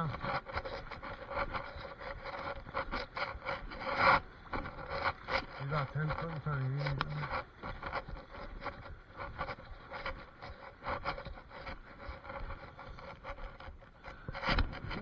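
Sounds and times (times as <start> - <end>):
clothing rubbing against camera: 0.0 - 15.0.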